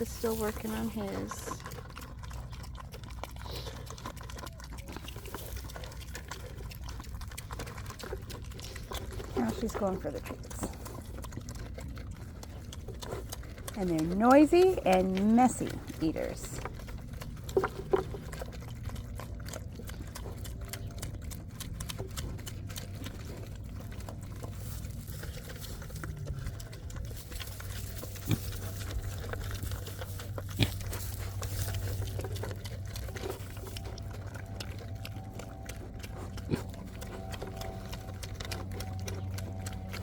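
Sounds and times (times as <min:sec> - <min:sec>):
pigs chewing and crunching food: 0:00.0 - 0:40.0
steady low hum: 0:00.0 - 0:40.0.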